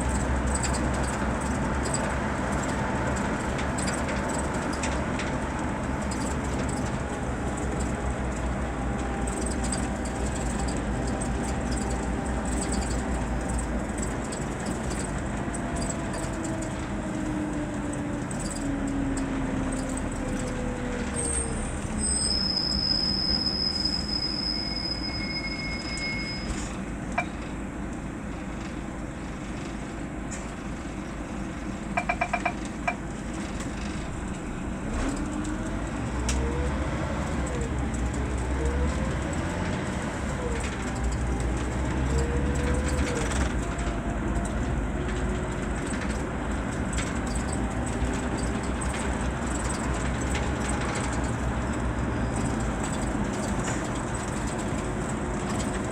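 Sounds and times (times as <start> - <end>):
bus diesel engine running: 0.0 - 55.9
road noise: 0.0 - 55.9.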